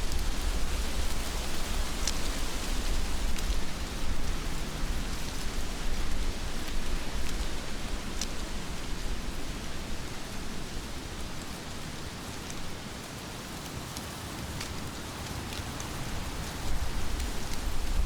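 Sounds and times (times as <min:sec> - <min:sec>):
heavy rain falling: 0:00.1 - 0:18.0.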